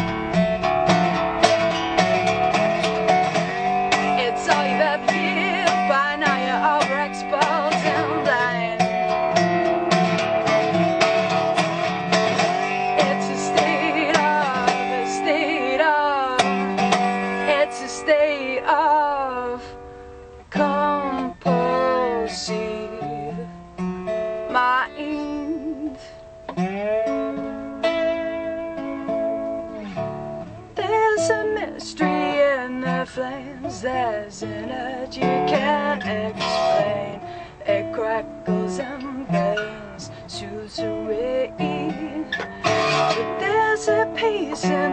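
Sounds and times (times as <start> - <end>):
resonator guitar blues: 0.0 - 44.9.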